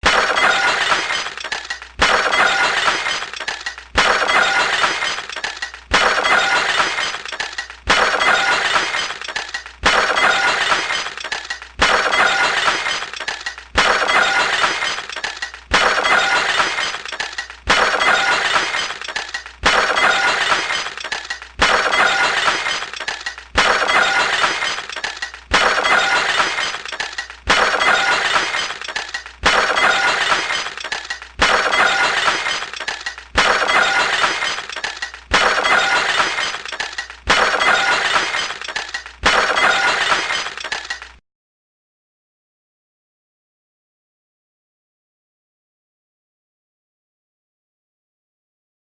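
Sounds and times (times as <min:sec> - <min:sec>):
wine glass shattering: 0:00.0 - 0:40.8.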